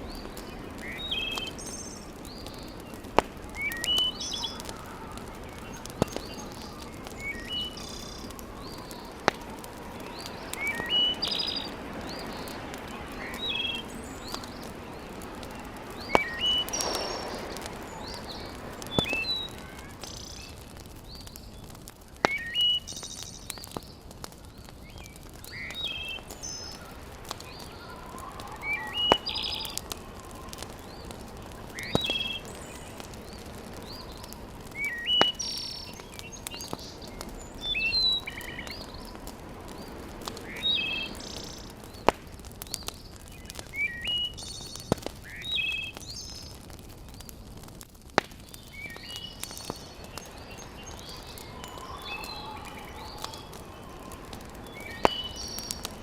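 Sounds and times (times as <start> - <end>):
birds chirping: 0.0 - 56.0
wood fire crackling: 0.0 - 56.0.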